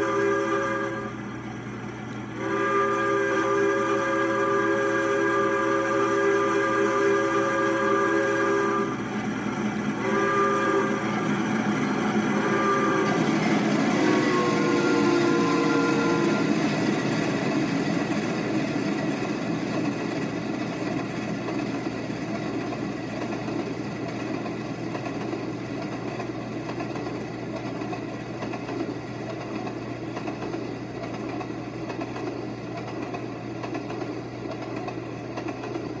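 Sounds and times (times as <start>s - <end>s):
freight cars rolling on rails: 0.0s - 36.0s.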